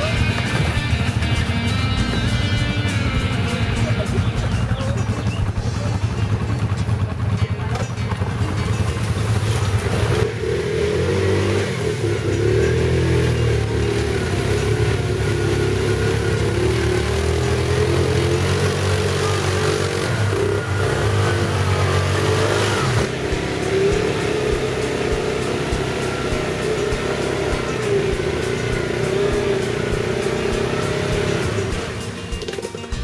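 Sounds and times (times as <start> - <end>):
quad bike engines revving: 0.0 - 33.0.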